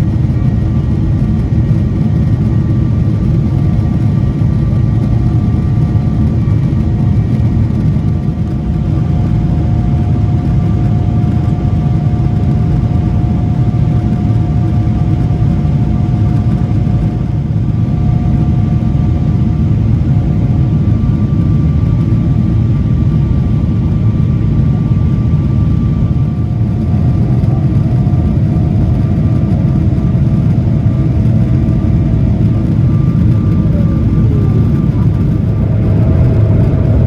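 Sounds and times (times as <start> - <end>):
faint steady whine: 0.0 - 37.0
jet engine and airflow rumble: 0.0 - 37.0.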